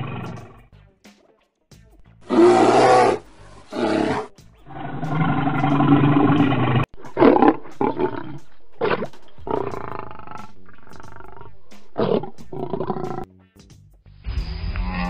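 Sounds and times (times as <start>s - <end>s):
bear roaring: 0.0s - 0.6s, 2.2s - 13.3s, 14.3s - 15.0s
lion roaring: 0.0s - 0.6s, 2.2s - 13.3s, 14.3s - 15.0s.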